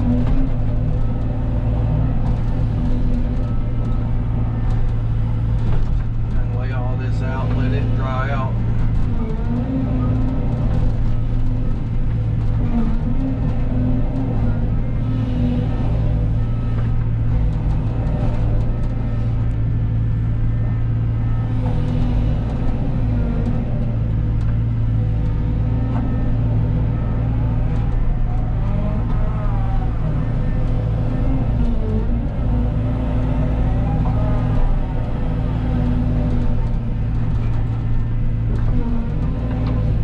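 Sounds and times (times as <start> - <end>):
excavator diesel engine running: 0.0 - 40.0
hydraulic whine: 0.0 - 40.0.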